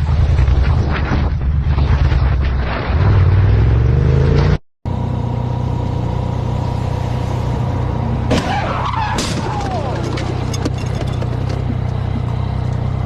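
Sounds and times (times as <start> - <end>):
vehicle driving drone: 0.0 - 13.0.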